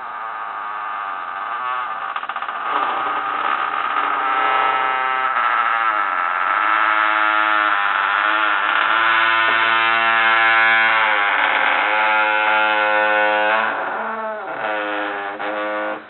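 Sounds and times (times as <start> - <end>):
door creaking: 0.0 - 16.0.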